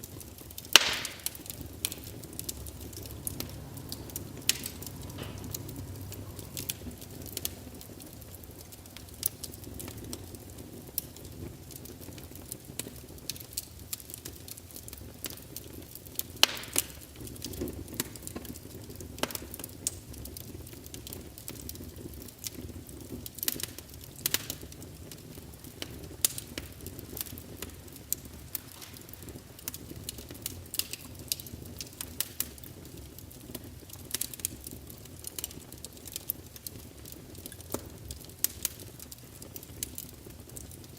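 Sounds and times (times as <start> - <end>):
low rumble of flame: 0.0 - 40.9
wood fire crackling and popping: 0.0 - 40.9.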